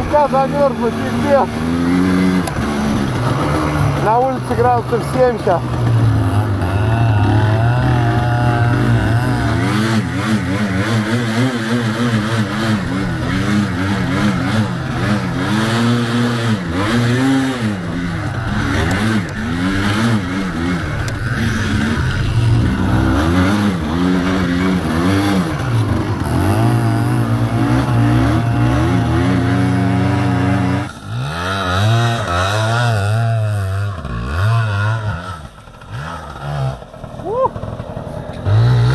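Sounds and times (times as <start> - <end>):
two-stroke quad engine revving: 0.0 - 38.9.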